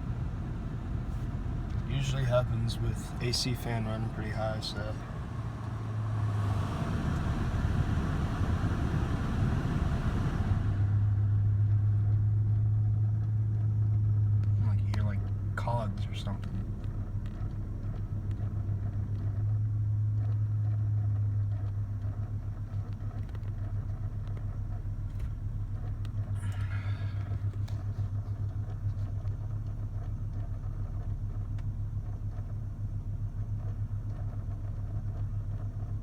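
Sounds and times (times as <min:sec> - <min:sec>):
low mooing drone behind dashboard: 0:00.0 - 0:32.9.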